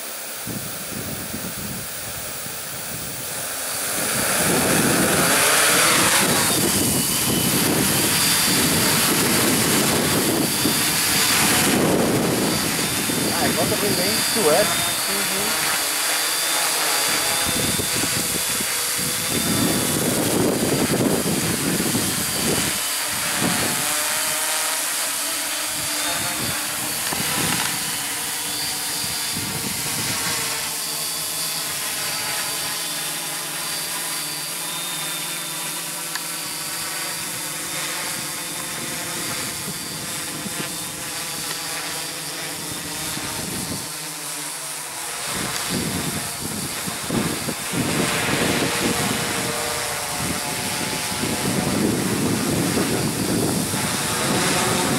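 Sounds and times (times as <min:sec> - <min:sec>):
drone propellers buzzing: 0:00.0 - 0:54.9.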